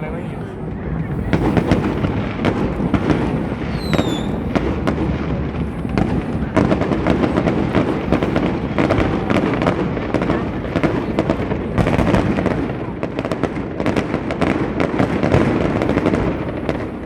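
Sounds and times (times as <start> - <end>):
fireworks bangs and crackles: 0.0 - 17.0
falling firework whistle: 1.0 - 17.0.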